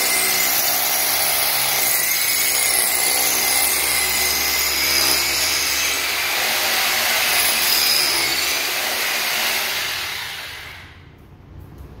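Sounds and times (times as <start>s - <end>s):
hammer drill boring into wood: 0.0s - 10.9s.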